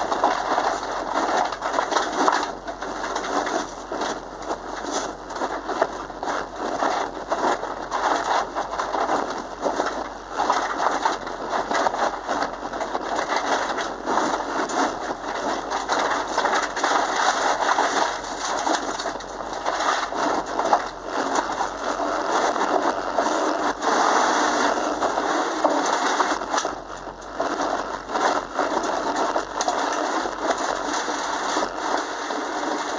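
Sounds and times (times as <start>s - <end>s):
stones rattling against car underside: 0.0s - 32.9s
tyres crunching on gravel: 0.0s - 32.9s.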